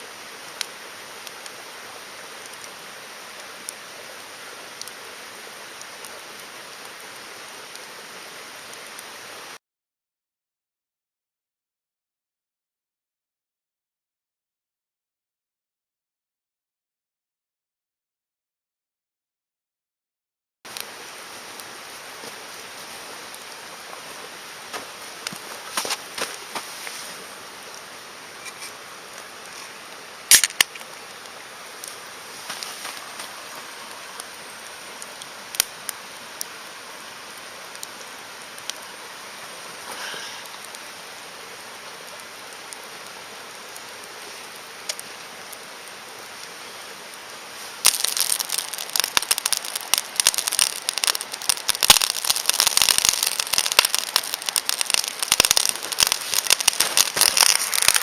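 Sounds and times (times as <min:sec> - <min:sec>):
campfire crackling and popping: 0:00.0 - 0:09.2, 0:20.7 - 0:58.0
faint hiss: 0:00.0 - 0:09.6, 0:20.7 - 0:58.0.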